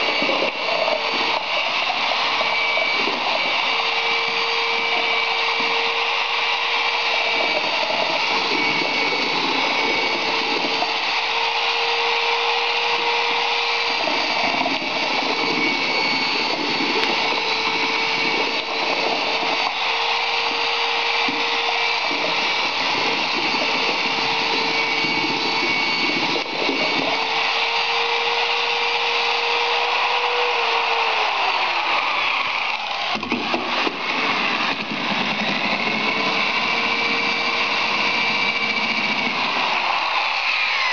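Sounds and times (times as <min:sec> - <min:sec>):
electric drill mixing render: 0:00.0 - 0:40.9.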